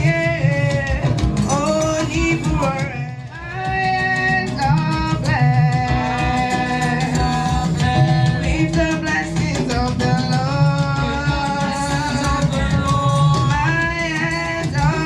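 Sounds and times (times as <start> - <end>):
bass and plucked strings: 0.0 - 15.0
drum beat: 0.0 - 15.0
voices singing worship music: 0.0 - 15.0.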